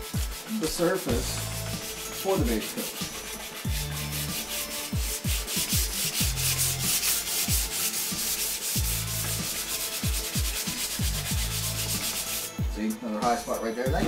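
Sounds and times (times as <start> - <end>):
sandpaper rasping on metal: 0.0 - 12.6.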